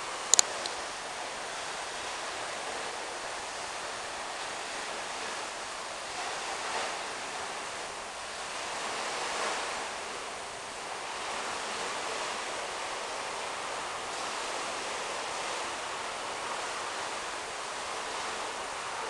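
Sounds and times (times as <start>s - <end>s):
distant sea surf: 0.0s - 19.0s.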